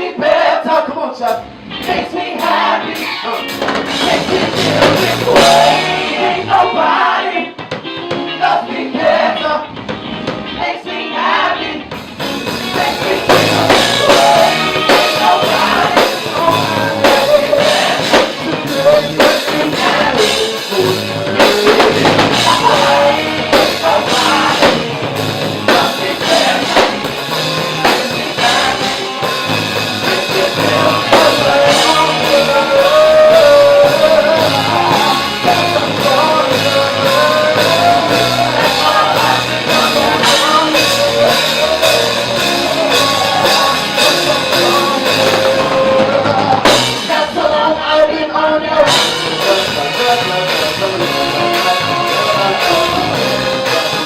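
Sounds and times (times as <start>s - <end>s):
bass: 0.0s - 54.0s
drum kit: 1.2s - 48.2s, 48.8s - 54.0s.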